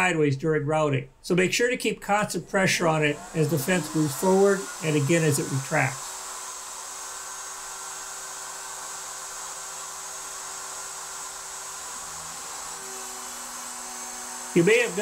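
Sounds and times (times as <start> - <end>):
router table whirring hum: 2.3 - 15.0.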